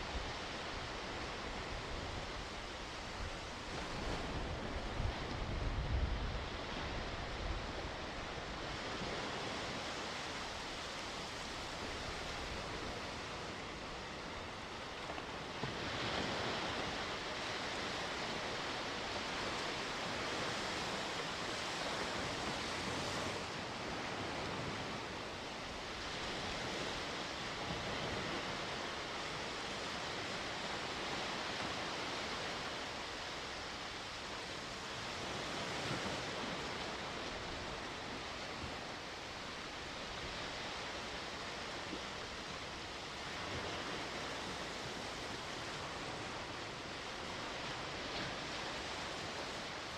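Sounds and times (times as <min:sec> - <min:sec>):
waves washing onto shore: 0:00.0 - 0:49.9
wind on microphone: 0:00.0 - 0:49.9.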